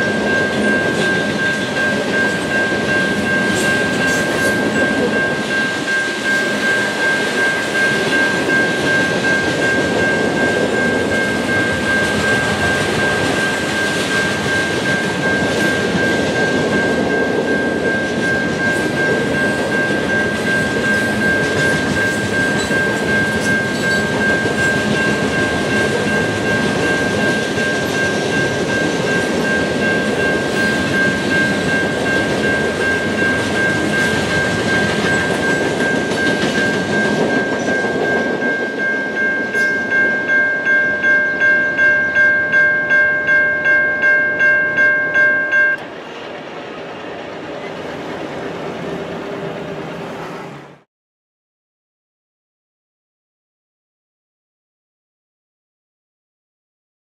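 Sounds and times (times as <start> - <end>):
train wheels rumbling and clattering: 0.0 - 41.3, 44.4 - 50.8
high ringing tone: 0.0 - 45.8.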